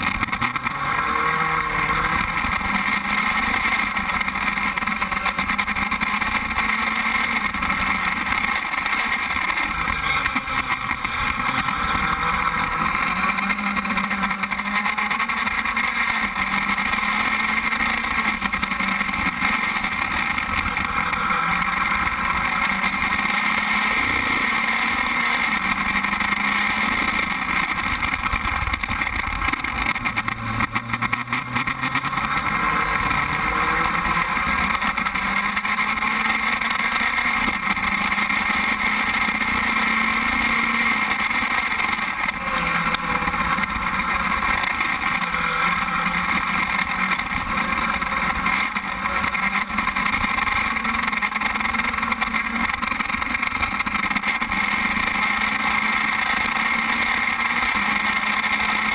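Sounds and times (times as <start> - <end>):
race car engine running: 0.0 - 58.9.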